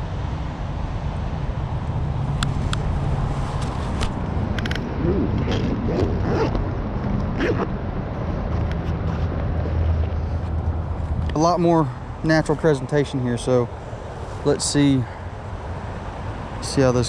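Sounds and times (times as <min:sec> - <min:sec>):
highway traffic: 0:00.0 - 0:17.0.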